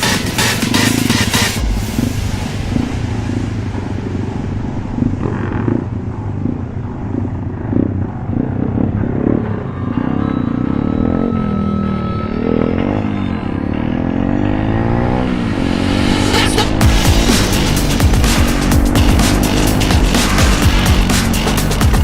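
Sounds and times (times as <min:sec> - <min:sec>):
pit bike engine revving: 0:00.0 - 0:02.1, 0:03.6 - 0:22.0.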